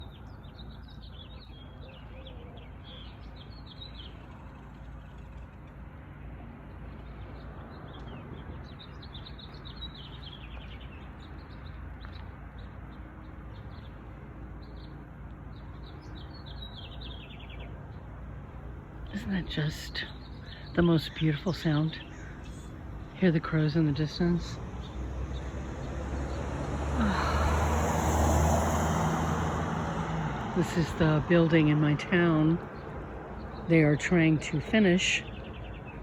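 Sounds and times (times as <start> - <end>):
songbirds chirping trills: 0.0 - 36.0.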